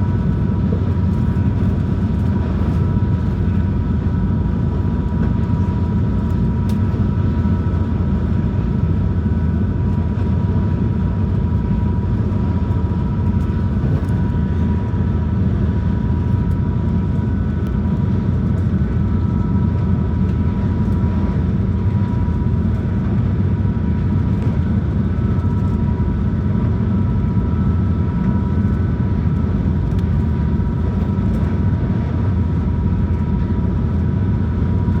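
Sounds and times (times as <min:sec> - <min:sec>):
boat engine drone: 0:00.0 - 0:35.0.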